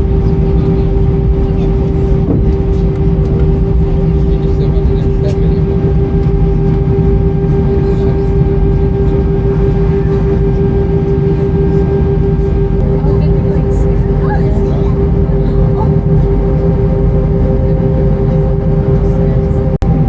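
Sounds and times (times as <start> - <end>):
aircraft engines and airflow rumble: 0.0 - 20.0
constant mid-pitched hum: 0.0 - 20.0.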